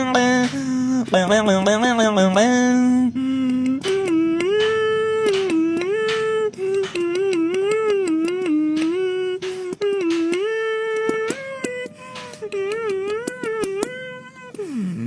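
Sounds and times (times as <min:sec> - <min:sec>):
person humming a melody: 0:00.0 - 0:15.0.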